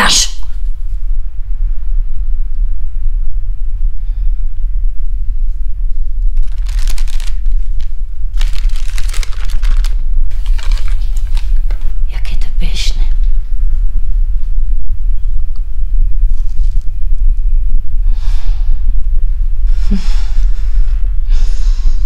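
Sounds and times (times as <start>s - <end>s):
deep low rumble: 0.0s - 22.0s.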